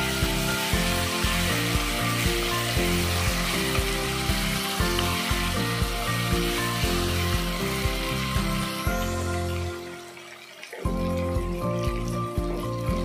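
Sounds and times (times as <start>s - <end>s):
background music with steady beat: 0.0s - 13.0s
onions sizzling in oil: 0.0s - 13.0s.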